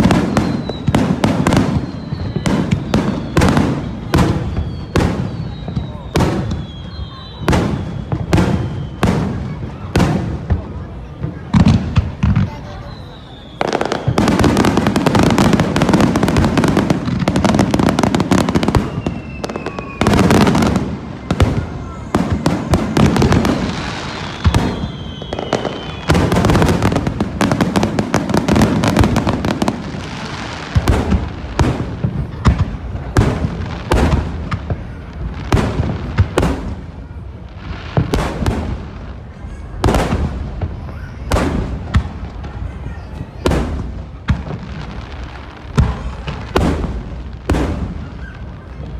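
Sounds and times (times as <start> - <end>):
fireworks booming and crackling: 0.0 - 48.9
fireworks whistling: 0.0 - 48.9.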